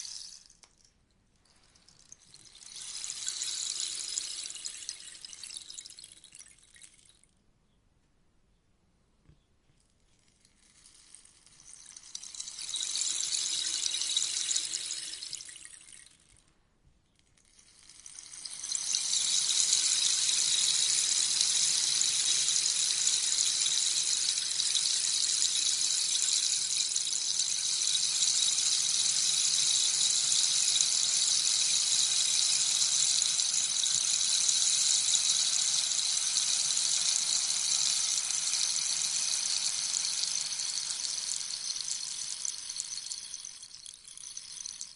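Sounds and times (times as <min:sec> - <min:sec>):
rainstick beads pattering: 0:00.0 - 0:07.2, 0:10.0 - 0:16.5, 0:17.2 - 0:44.9.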